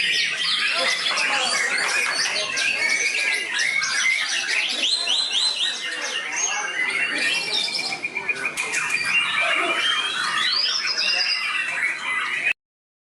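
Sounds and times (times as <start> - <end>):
birds singing trills and whistles: 0.0 - 12.6.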